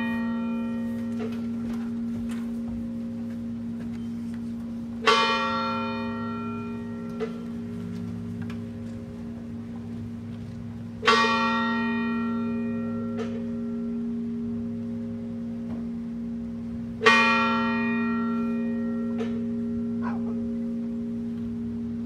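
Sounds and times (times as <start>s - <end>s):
large church bell tolling: 0.0s - 22.0s.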